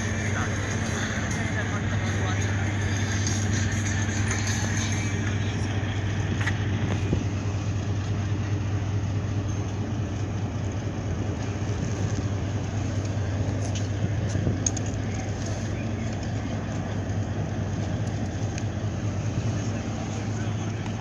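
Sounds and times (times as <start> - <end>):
broad background noise: 0.0 - 21.0
low engine drone: 0.0 - 21.0.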